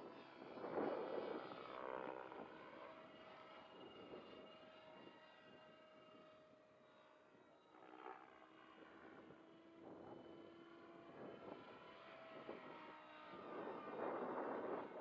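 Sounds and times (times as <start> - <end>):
distant rc helicopter whine: 0.0 - 15.0.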